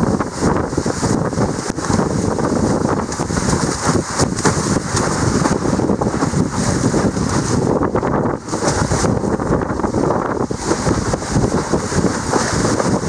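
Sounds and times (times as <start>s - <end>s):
water rushing and splashing: 0.0s - 13.0s
wind buffeting microphone: 0.0s - 13.0s.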